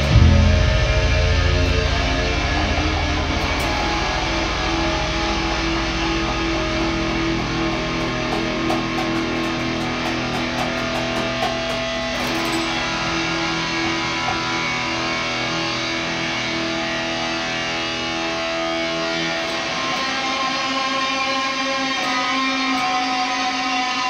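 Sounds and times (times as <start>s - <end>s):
bass guitar: 0.0s - 22.4s
electric guitar notes: 0.0s - 24.0s.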